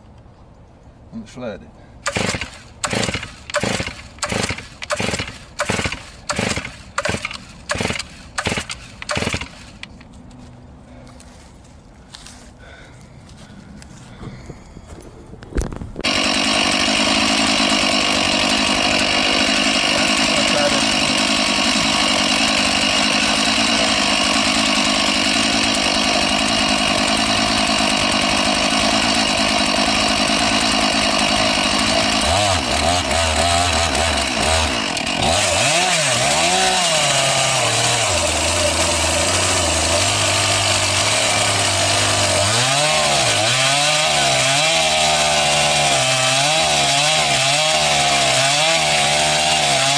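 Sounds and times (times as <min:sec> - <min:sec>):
chainsaw cutting wood: 0:02.0 - 0:10.1, 0:16.0 - 0:49.9.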